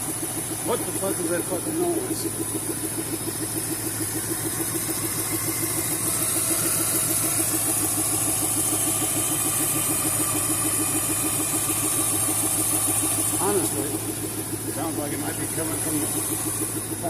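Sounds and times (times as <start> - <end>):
engine idling with rhythmic pulse: 0.0 - 17.0.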